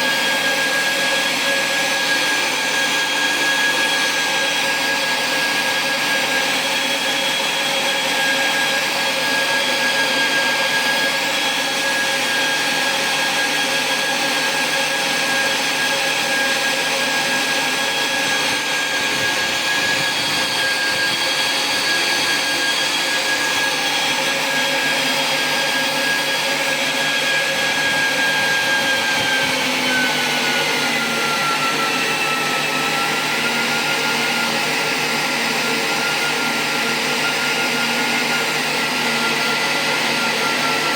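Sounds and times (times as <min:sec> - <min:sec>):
motor high whine: 0:00.0 - 0:40.9.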